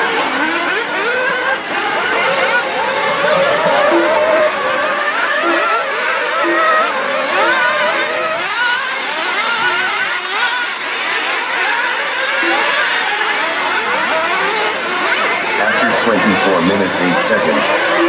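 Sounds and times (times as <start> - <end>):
rc car engines whining: 0.0 - 18.0.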